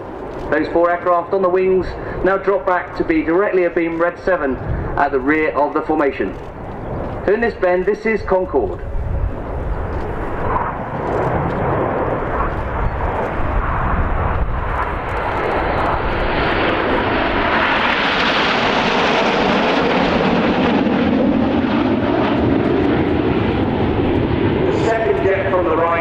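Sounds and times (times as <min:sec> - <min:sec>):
jets flying past overhead: 0:00.0 - 0:26.0.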